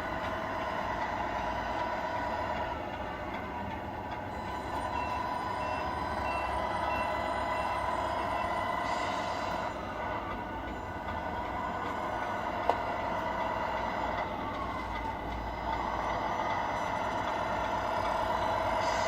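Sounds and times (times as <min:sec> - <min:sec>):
model truck mechanical whine: 0:00.0 - 0:19.0.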